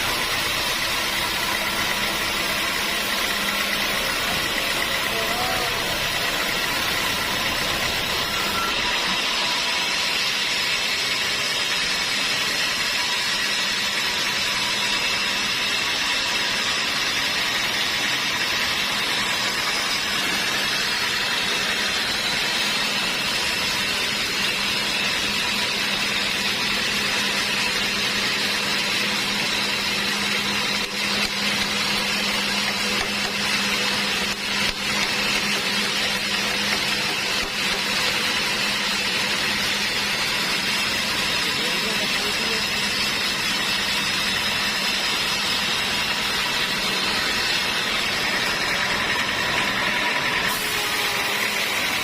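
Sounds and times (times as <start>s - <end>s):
sawmill machinery running: 0.0s - 52.0s.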